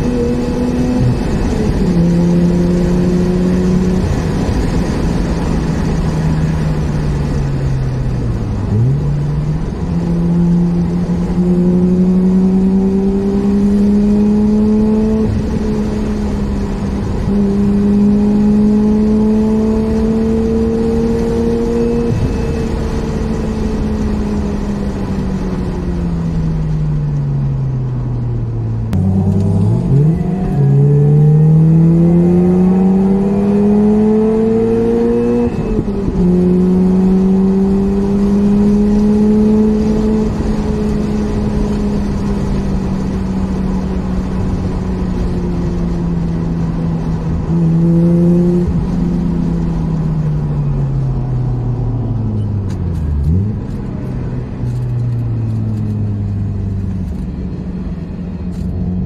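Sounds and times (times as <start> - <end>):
car engine revving in cabin: 0.0 - 26.5, 27.4 - 59.0.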